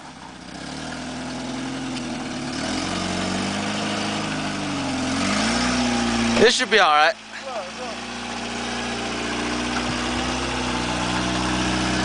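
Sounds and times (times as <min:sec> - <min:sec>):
pickup engine revving: 0:00.0 - 0:12.0.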